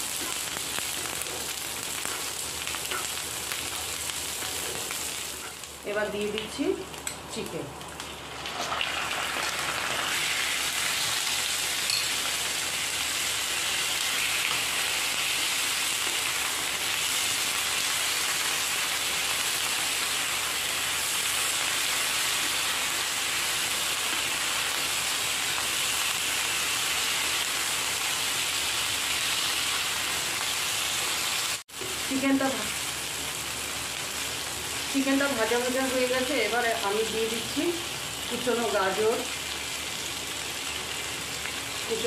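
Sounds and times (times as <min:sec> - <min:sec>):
chicken frying in hot oil: 0:07.9 - 0:42.0.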